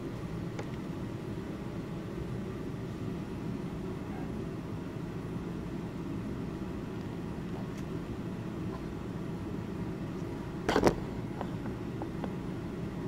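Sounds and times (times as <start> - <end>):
low room noise rumble: 0.0 - 13.0.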